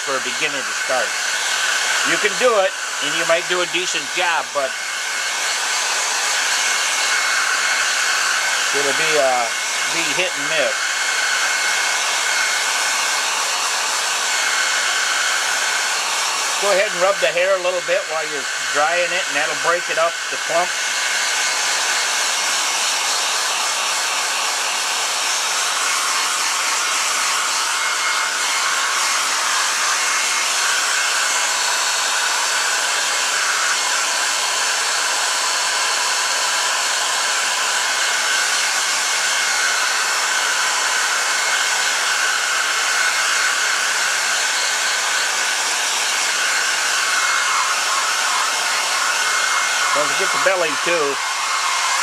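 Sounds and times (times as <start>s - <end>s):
hair dryer blowing: 0.0s - 52.0s.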